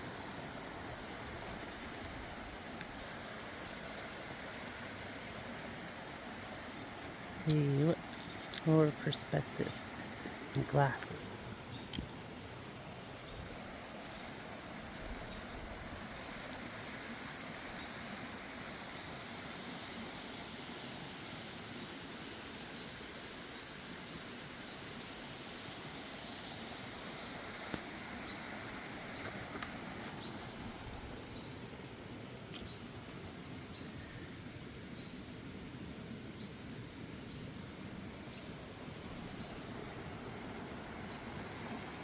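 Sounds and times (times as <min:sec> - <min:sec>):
even outdoor hiss: 0:00.0 - 0:42.0.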